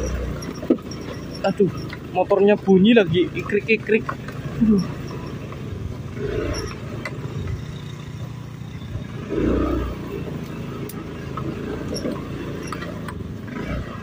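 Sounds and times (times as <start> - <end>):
scooter engine running under load: 0.0 - 14.0.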